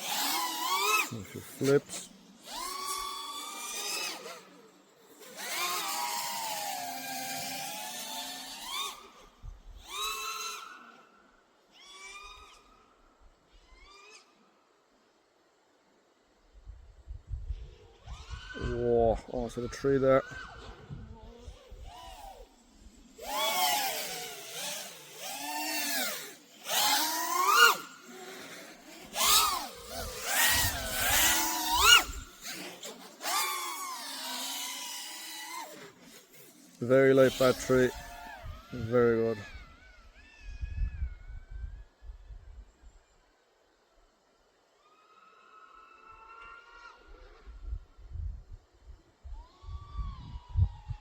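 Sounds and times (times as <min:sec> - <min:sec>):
drone motors whining: 0:00.0 - 0:14.6, 0:17.4 - 0:42.9, 0:49.2 - 0:51.0.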